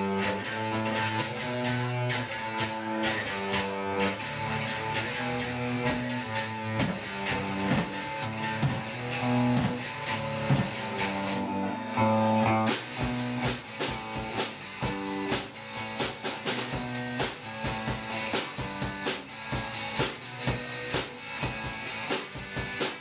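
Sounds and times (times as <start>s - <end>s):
drum kit: 0.0s - 11.6s, 12.4s - 23.0s
electric guitars: 0.0s - 23.0s.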